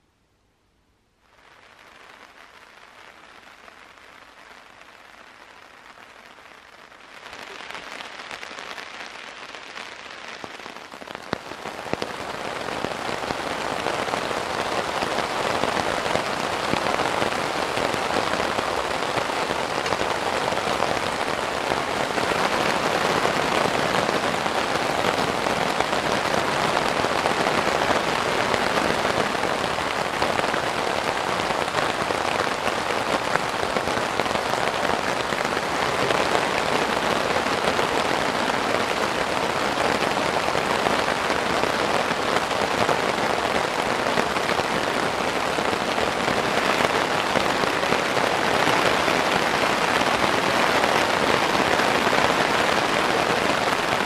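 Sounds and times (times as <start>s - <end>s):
steady rain in forest: 0.0s - 54.0s.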